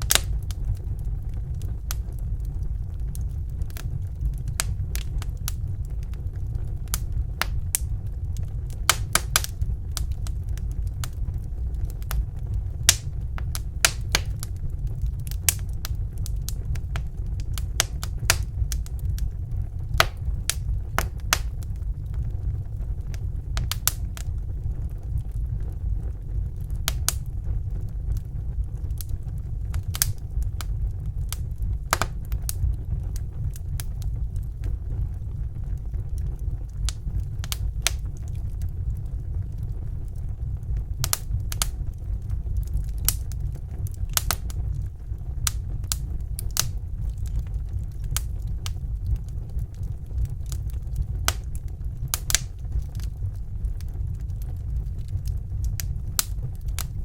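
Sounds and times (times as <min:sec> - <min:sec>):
fireplace fire crackling and popping: 0:00.0 - 0:57.0.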